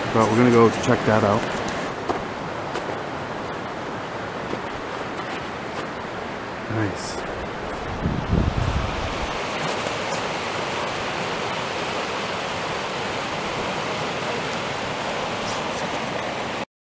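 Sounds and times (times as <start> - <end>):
stream rushing over stones: 0.0 - 16.6.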